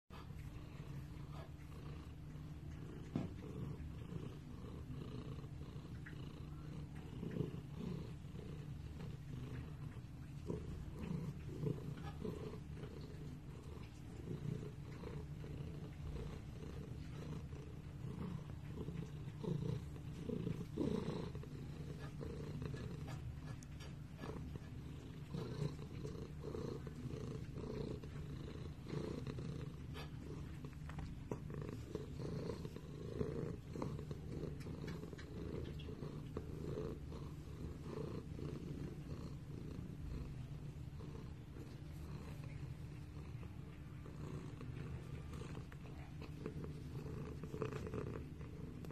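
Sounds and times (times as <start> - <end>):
cat purring: 0.1 - 48.9.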